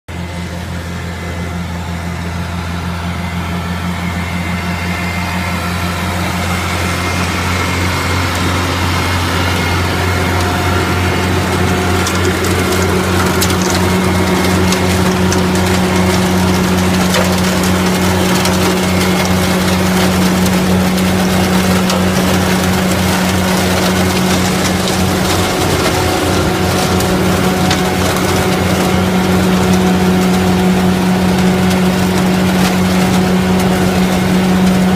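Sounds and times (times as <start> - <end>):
engine and fan drone: 0.1 - 34.9
dry leaves crackling in hose: 5.8 - 34.9.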